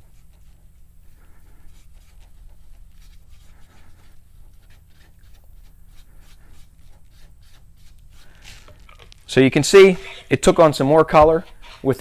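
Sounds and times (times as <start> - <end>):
hand rubbing oil into wood: 0.0 - 12.0.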